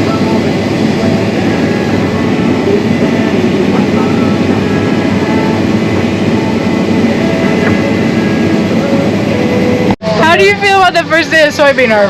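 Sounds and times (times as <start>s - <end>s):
farm machinery diesel engine drone: 0.0s - 12.0s.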